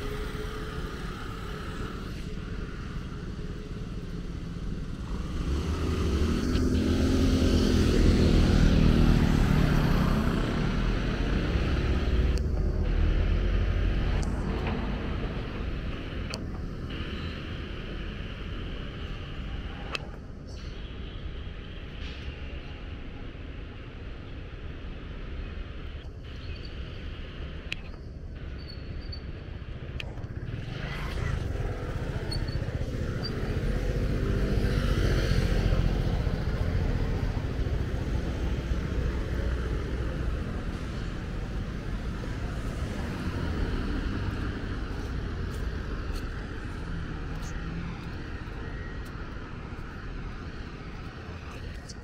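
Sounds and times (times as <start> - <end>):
hum of passing traffic: 0.0 - 52.0.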